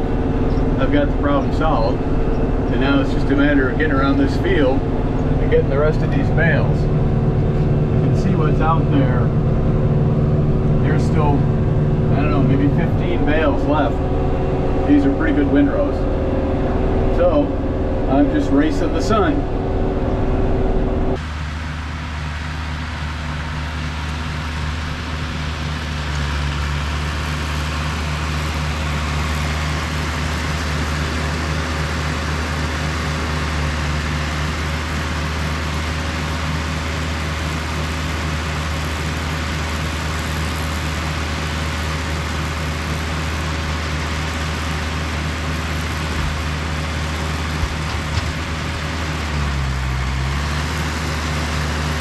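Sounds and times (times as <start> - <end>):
round baler working: 0.0 - 52.0
tractor engine running: 0.0 - 52.0.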